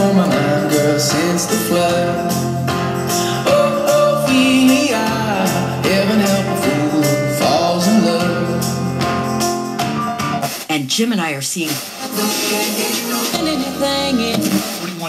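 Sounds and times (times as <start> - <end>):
song over boombox speakers: 0.0 - 15.0.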